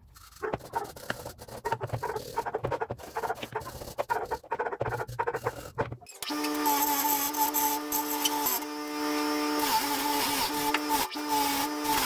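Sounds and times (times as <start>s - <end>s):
wire brush scrubbing rusty metal: 0.0s - 8.7s, 9.6s - 12.0s.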